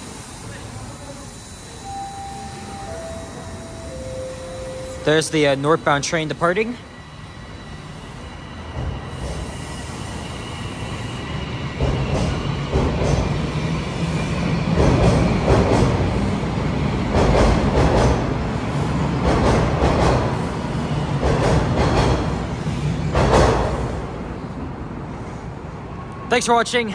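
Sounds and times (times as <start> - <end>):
subway train motor whine: 0.0 - 26.3.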